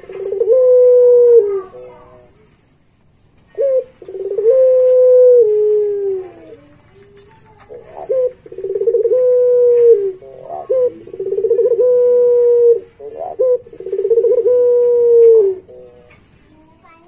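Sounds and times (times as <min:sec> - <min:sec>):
dove cooing: 0:00.0 - 0:02.3, 0:03.5 - 0:16.2.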